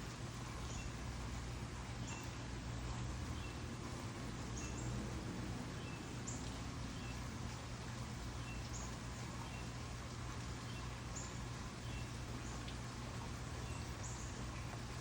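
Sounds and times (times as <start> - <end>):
low steady hum: 0.0 - 15.0
steady rain hiss: 0.0 - 15.0.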